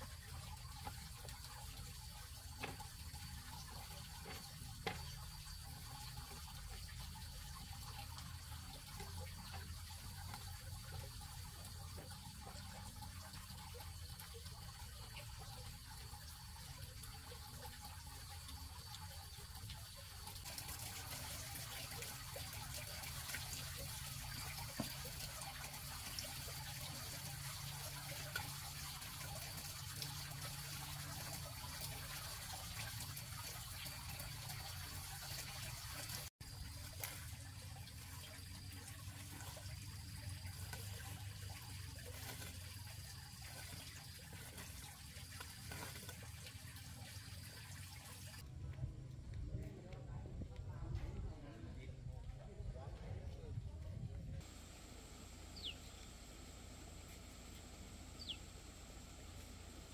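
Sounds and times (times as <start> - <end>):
running water: 0.0 - 48.5.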